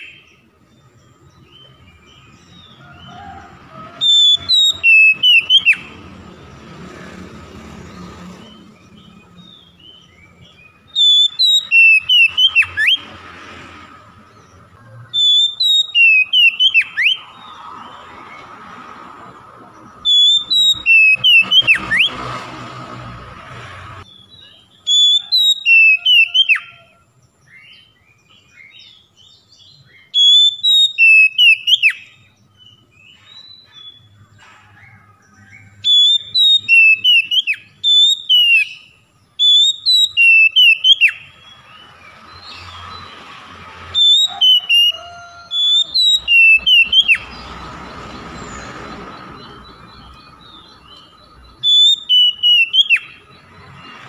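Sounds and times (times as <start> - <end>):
bird singing whistled notes: 0.0 - 3.2, 4.0 - 6.0, 8.4 - 13.2, 14.3 - 18.0, 19.8 - 22.2, 24.0 - 34.2, 35.4 - 43.2, 43.9 - 54.0.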